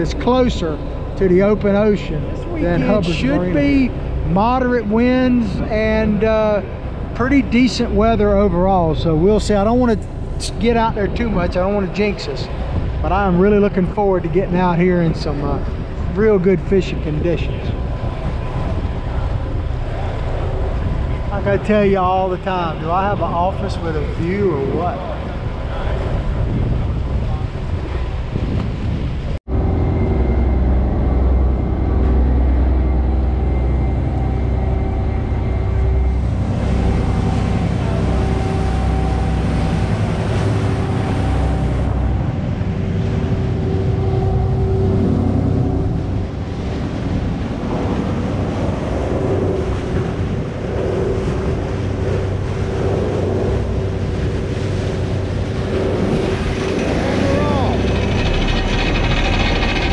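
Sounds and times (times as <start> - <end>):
boat engines rumbling: 0.0 - 59.9
water rushing past hull: 0.0 - 59.9
wind on microphone: 0.0 - 59.9.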